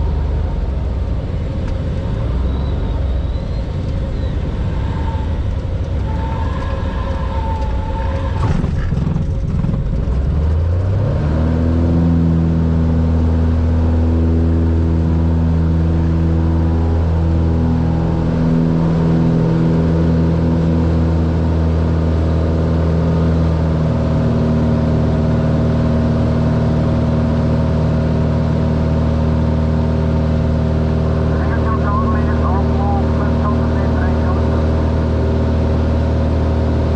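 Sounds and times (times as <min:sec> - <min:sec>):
propeller plane engine running: 0:00.0 - 0:36.9.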